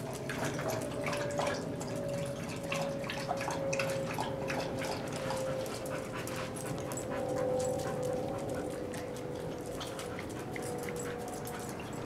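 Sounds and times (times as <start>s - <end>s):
dog lapping water: 0.0s - 12.0s.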